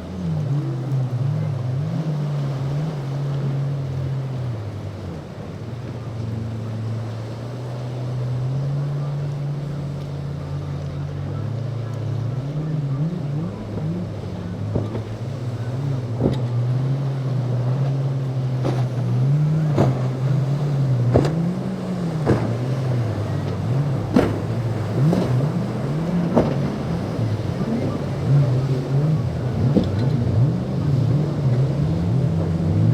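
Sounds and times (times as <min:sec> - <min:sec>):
boat engines revving: 0:00.0 - 0:32.9.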